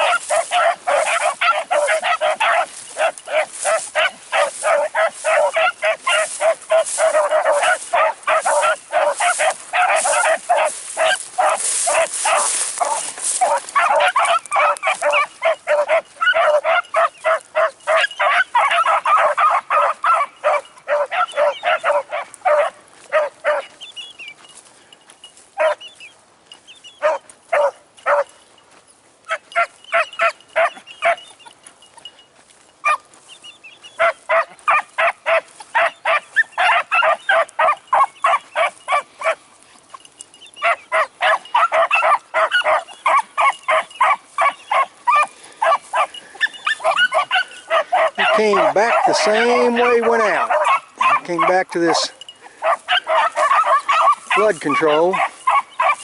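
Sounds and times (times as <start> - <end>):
hounds baying and barking: 0.0 - 56.0.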